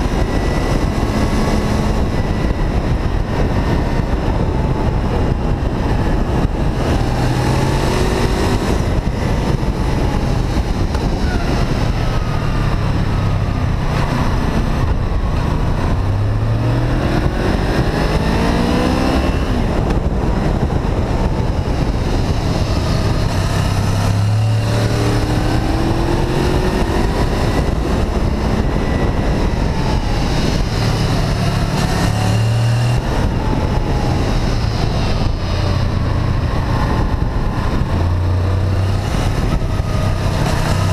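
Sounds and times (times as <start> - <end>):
motorcycle engine accelerating: 0.0 - 40.9
wind rush: 0.0 - 40.9.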